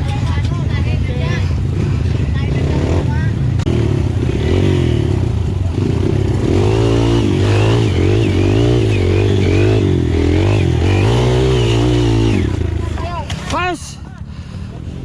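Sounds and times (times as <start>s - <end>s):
dirt bike engine revving: 1.6s - 13.8s.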